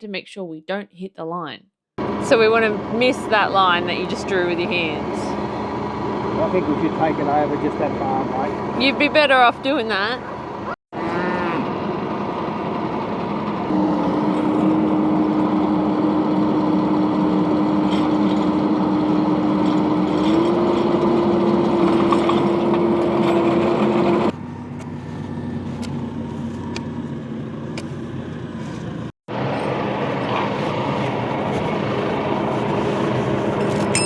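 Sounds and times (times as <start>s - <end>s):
tractor engine running: 2.0s - 10.8s, 11.6s - 34.0s
auger whine: 2.0s - 34.0s.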